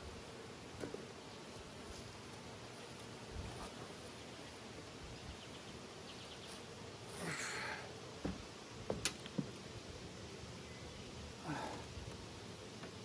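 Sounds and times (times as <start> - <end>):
rustle: 0.0 - 13.0.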